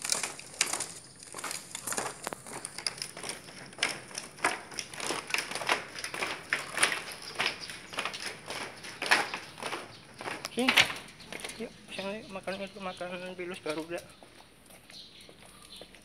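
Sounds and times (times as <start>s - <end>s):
footsteps on tiled stairs: 0.0s - 16.0s.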